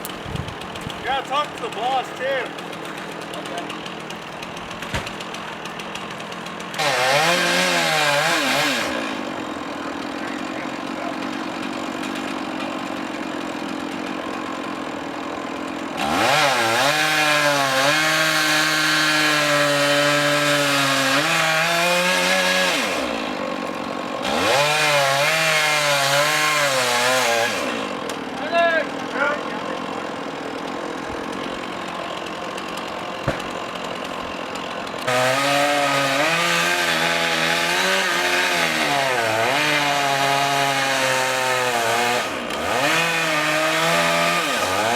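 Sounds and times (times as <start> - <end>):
chainsaw revving: 0.0 - 44.9.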